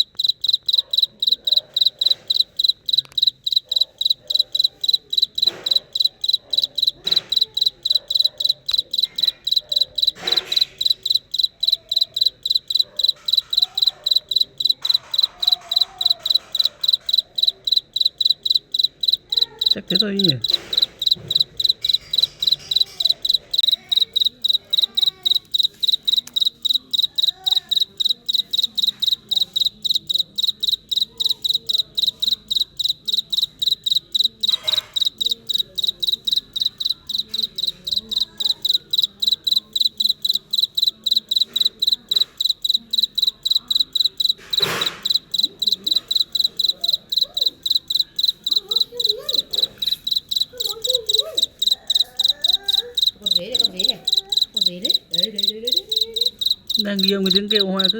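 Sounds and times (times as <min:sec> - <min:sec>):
cricket chirping: 0:00.0 - 0:57.9.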